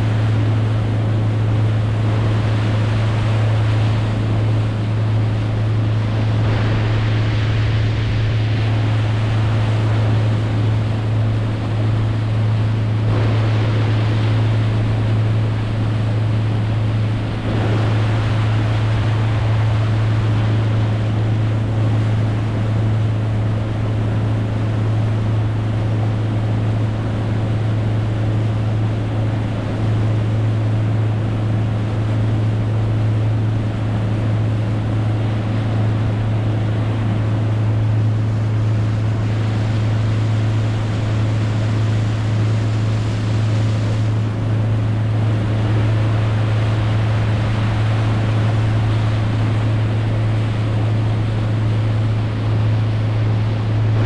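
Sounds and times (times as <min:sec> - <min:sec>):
boat motor droning: 0:00.0 - 0:54.0
wind and water hiss: 0:00.0 - 0:54.0.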